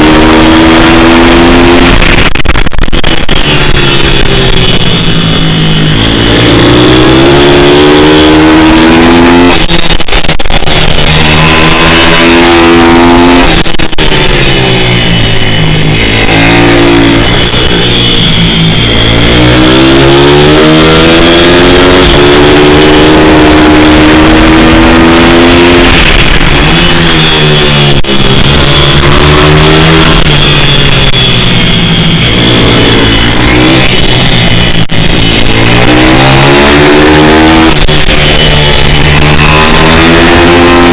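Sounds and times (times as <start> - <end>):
pit bike engine revving hard: 0.0 - 2.3, 3.0 - 40.9.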